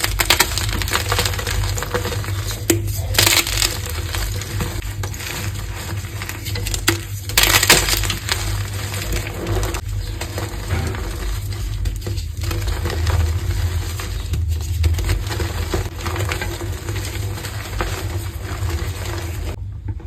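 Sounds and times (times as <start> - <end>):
chalk crunching by hand: 0.0 - 19.6.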